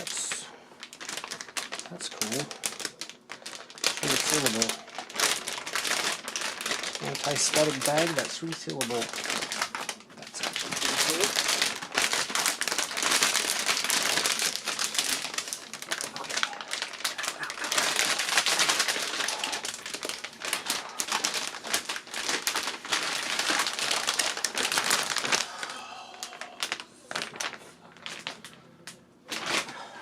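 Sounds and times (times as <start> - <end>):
plastic bag crinkling: 0.0 - 29.9.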